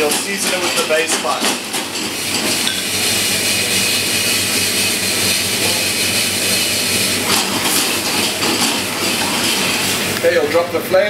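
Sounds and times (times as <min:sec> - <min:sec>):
extractor hood fan rushing: 0:00.0 - 0:11.0
gas burners roaring: 0:00.0 - 0:11.0.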